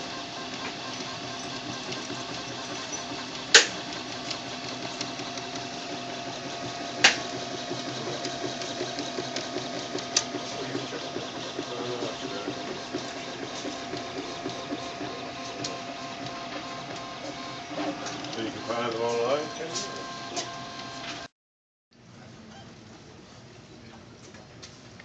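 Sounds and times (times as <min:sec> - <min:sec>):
stepper motors buzzing and whirring: 0:00.0 - 0:21.3.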